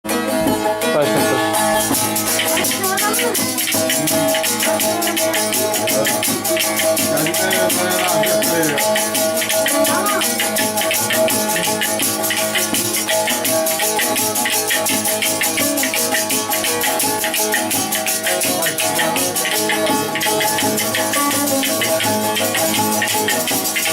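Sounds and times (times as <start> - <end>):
plucked strings: 0.1 - 23.9
fast ticking percussion beat: 0.5 - 23.9
steady held tones: 1.4 - 23.9.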